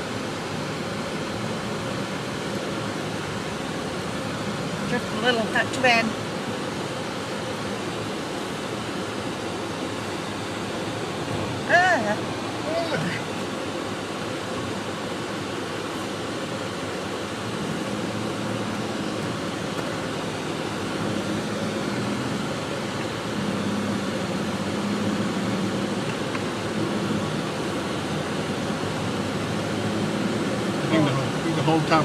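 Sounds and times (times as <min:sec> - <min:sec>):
low engine drone: 0:00.0 - 0:32.0
road noise inside car: 0:00.0 - 0:32.0.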